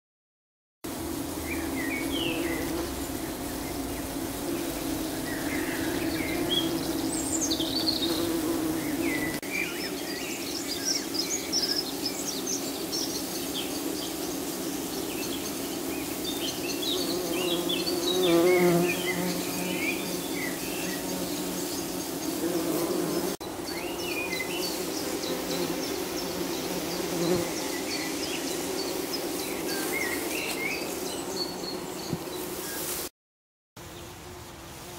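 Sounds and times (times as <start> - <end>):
bumblebees buzzing: 0.9 - 33.1
songbirds chirping: 1.2 - 32.9.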